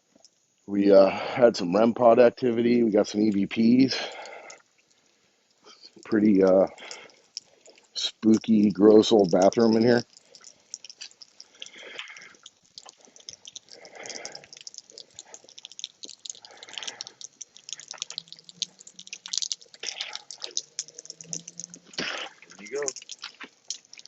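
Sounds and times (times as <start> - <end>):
water dripping: 0.1 - 24.0
soft water splashes: 3.9 - 24.0.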